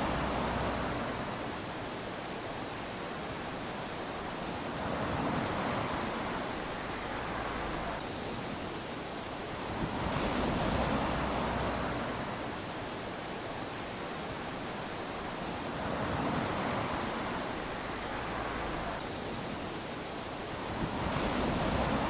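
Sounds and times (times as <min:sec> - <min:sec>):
small waves lapping on sand: 0:00.0 - 0:22.0.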